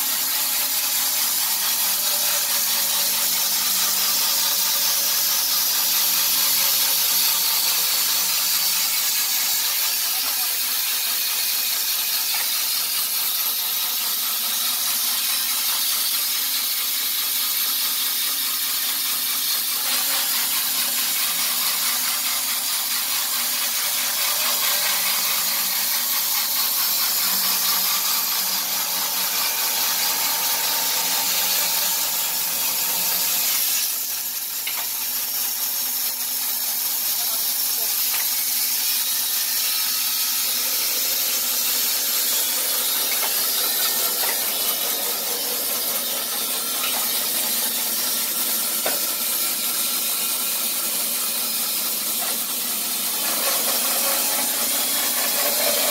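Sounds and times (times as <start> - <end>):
band saw sawing log: 0.0 - 55.9.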